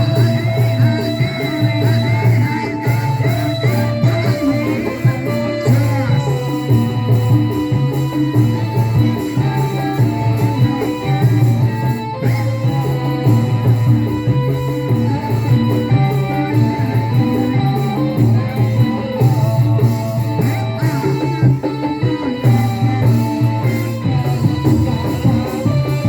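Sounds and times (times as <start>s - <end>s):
instrumental band music: 0.0s - 26.0s.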